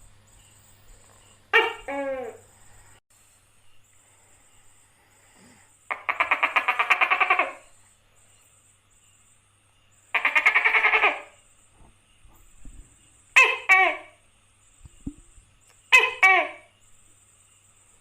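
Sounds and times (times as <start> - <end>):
gecko calling with rattling trills: 0.0 - 18.0.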